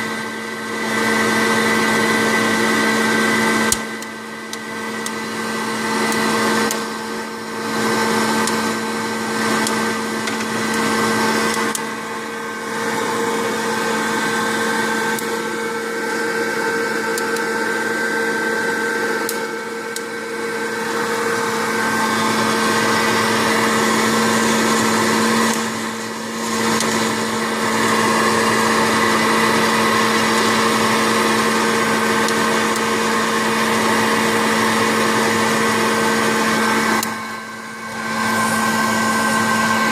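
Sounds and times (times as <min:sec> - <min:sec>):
popcorn popper fan whirring: 0:00.0 - 0:39.9.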